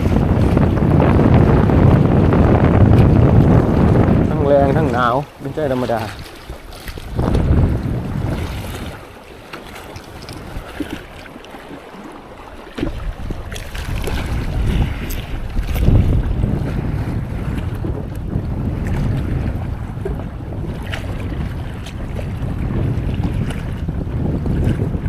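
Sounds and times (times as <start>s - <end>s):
sea surf: 0.0s - 25.0s
wind buffeting microphone: 0.0s - 25.0s.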